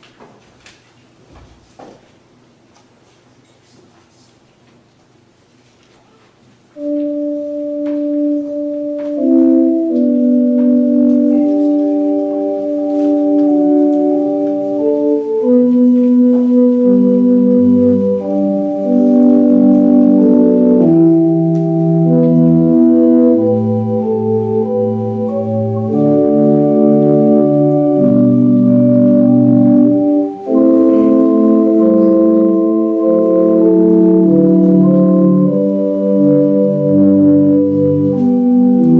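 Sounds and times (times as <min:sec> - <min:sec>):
church organ chords: 0:06.8 - 0:38.9.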